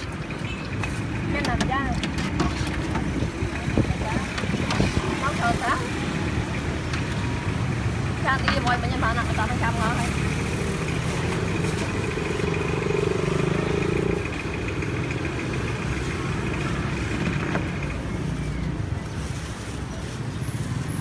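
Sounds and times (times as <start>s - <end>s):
street traffic engine hum: 0.0s - 21.0s.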